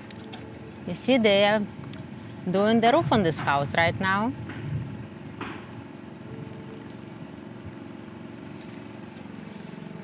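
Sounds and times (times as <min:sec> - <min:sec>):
engine hum: 0:00.0 - 0:10.0.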